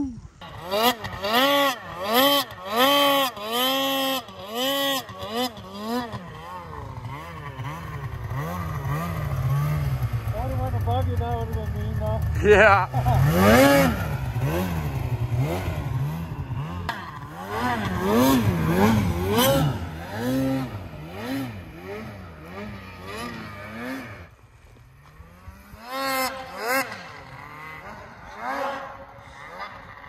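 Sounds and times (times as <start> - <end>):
snowmobile engine revving: 0.4 - 30.0.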